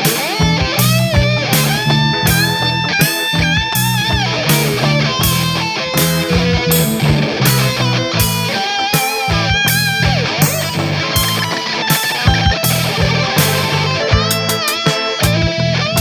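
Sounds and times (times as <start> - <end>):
bass line: 0.0 - 8.6, 9.3 - 16.0
steady drum beat: 0.0 - 15.6
electric guitar: 0.0 - 16.0.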